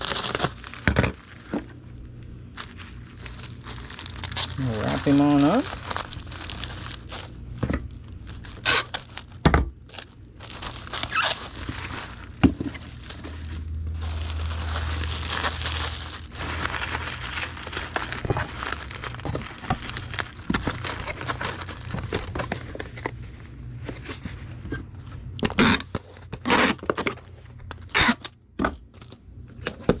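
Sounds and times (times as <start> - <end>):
bubble wrap crinkling: 0.0 - 24.7, 25.3 - 28.3.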